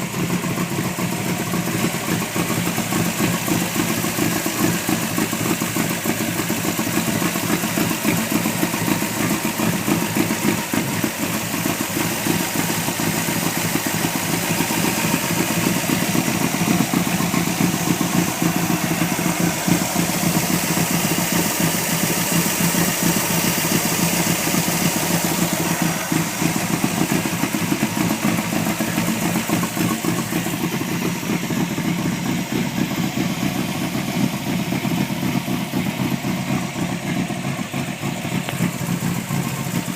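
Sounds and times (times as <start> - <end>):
truck engine running steadily: 0.0 - 39.9.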